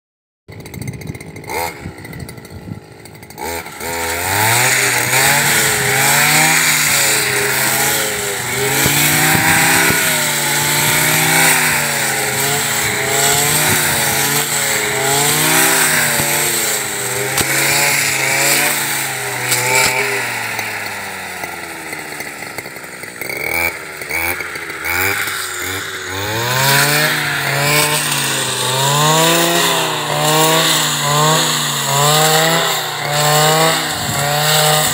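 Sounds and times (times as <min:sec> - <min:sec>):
brush cutter engine revving: 0:00.5 - 0:34.9
blade cutting through dry grass: 0:00.6 - 0:34.9.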